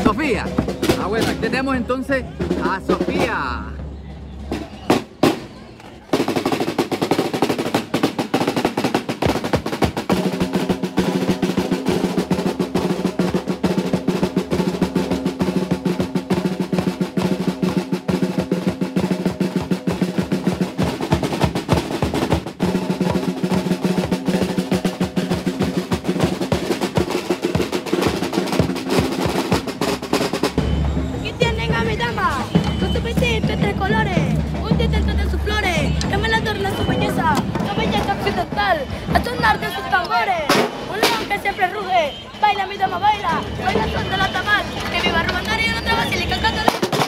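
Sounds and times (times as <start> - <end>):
street drums drumming: 0.0 - 47.0.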